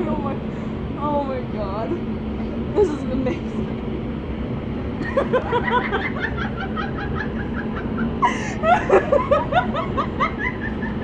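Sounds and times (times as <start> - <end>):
blower rushing and humming: 0.0 - 11.0.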